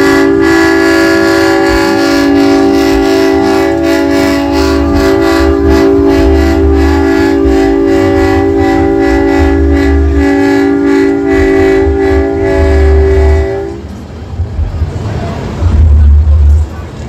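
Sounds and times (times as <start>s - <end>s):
deep bass pulses: 0.0s - 13.8s, 15.6s - 16.8s
train-style air horn chord: 0.0s - 13.9s.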